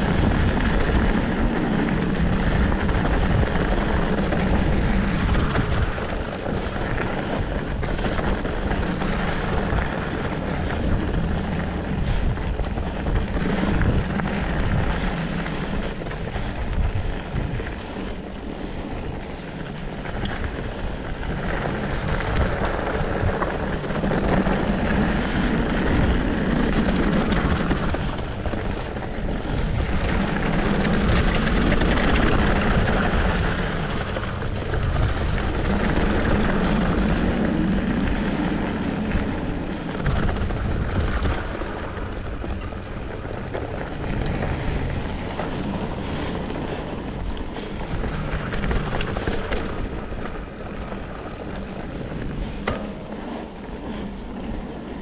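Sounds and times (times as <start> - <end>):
bike tyres rumbling over dirt: 0.0 - 55.0
sharp clicks from bike: 0.0 - 55.0
wind buffeting microphone: 0.0 - 55.0.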